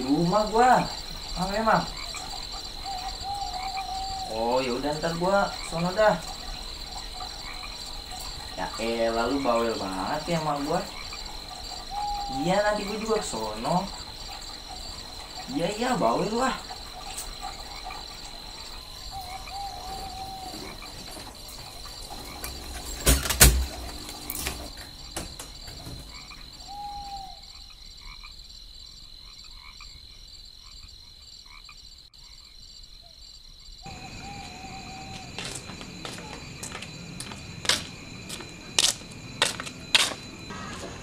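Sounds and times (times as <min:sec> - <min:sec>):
frog-like calls: 0:00.0 - 0:41.0
insects chirring: 0:00.0 - 0:41.0.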